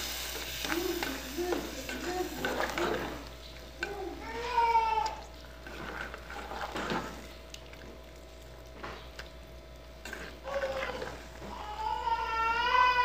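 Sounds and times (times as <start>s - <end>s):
wooden spoon stirring in metal pot: 0.0s - 13.0s.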